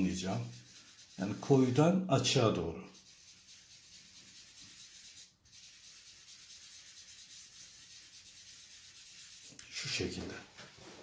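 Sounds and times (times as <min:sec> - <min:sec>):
cotton rubbing on paper: 0:00.0 - 0:11.0.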